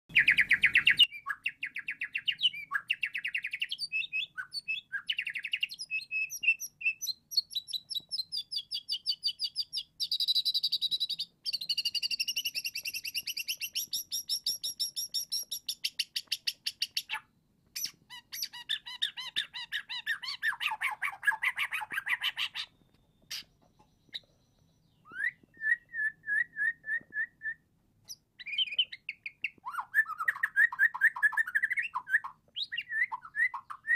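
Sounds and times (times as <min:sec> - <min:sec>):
bird singing trills: 0:00.1 - 0:33.9.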